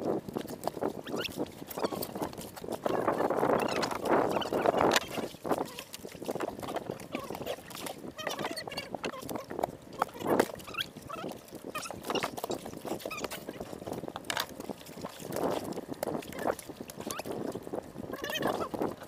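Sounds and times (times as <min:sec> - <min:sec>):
water slapping against hull: 0:00.0 - 0:19.0.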